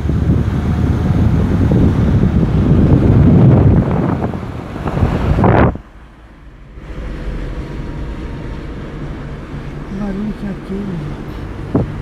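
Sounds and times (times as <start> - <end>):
low hum inside car: 0.0 - 12.0
outdoor rushing roar: 0.0 - 12.0
wind buffeting microphone: 0.0 - 12.0.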